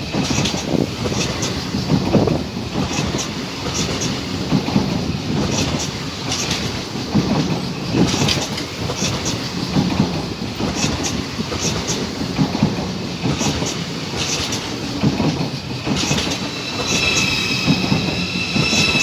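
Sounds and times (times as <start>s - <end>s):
train rumble: 0.0s - 19.0s
train wheels clacking over rail joints: 0.0s - 19.0s.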